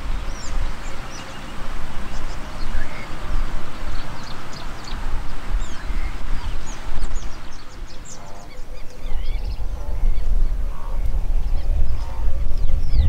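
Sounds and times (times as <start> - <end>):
birds chirping: 0.0 - 13.0
wind rumble on microphone: 0.0 - 13.0.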